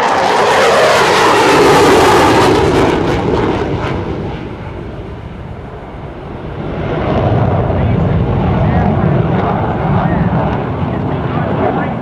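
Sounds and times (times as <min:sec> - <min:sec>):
military jet passing: 0:00.0 - 0:12.0.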